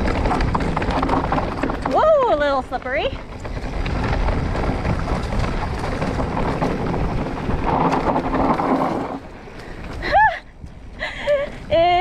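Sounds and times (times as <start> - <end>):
bike tyres rolling on dirt: 0.0 - 12.0
wind buffeting microphone: 0.0 - 12.0.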